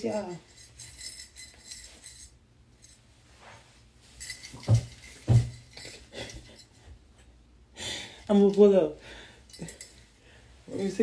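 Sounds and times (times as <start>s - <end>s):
faint metal clinking: 0.0s - 7.3s, 8.2s - 11.0s.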